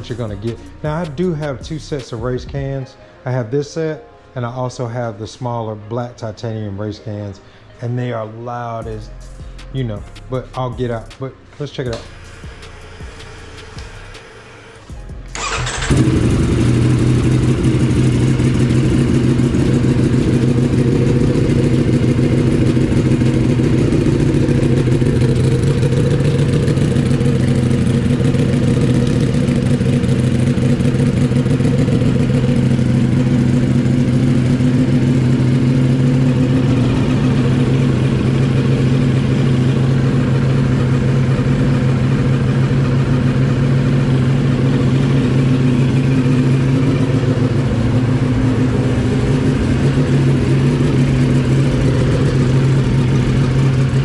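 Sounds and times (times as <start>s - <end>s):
motorcycle engine idling: 0.0s - 2.7s, 11.9s - 54.0s.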